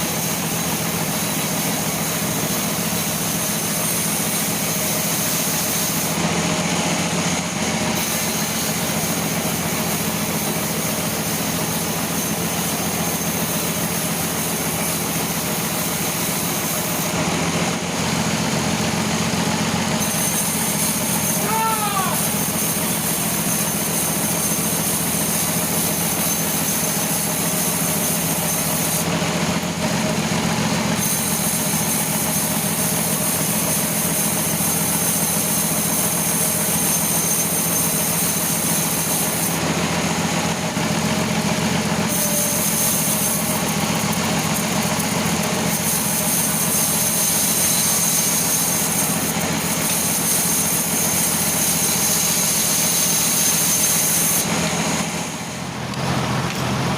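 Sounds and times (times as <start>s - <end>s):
machine saw running: 0.0s - 56.9s.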